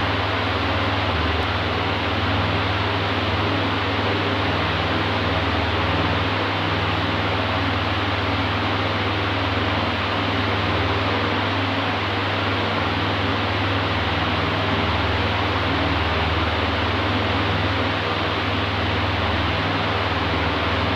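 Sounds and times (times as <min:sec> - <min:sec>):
electric fan running: 0:00.0 - 0:20.9.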